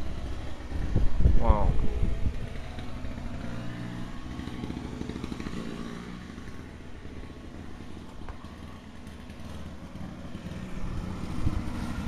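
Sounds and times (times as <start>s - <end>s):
engine running with clatter: 0.0s - 12.0s.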